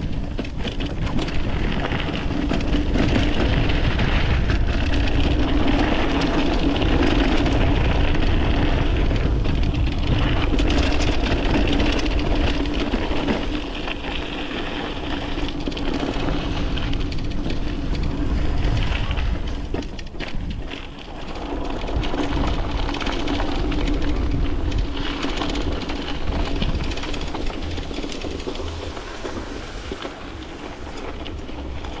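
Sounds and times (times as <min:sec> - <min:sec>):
bike tyres rolling and rattling: 0:00.0 - 0:32.0
wind rumbling on microphone: 0:00.0 - 0:32.0.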